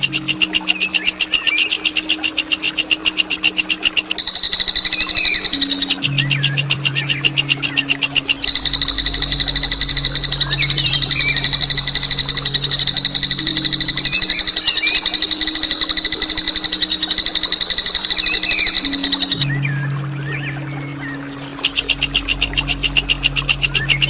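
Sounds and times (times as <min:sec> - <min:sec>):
songbird rolling trill: 0:00.0 - 0:19.5, 0:21.6 - 0:24.0
low steady hum: 0:00.0 - 0:24.0.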